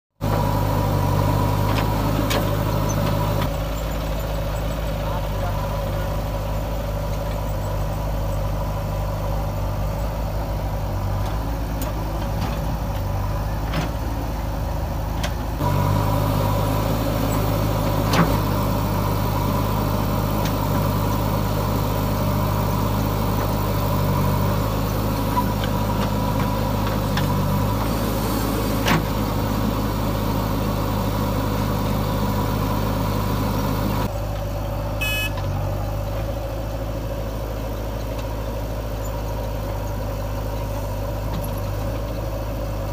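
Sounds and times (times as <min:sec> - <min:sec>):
tractor engine: 0:00.1 - 0:42.9
backhoe diesel engine running: 0:00.2 - 0:42.9.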